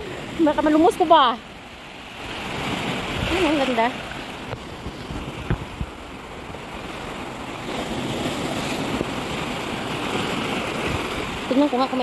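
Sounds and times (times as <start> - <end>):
waves washing over rocks: 0.0 - 12.0
wind on microphone: 2.2 - 12.0.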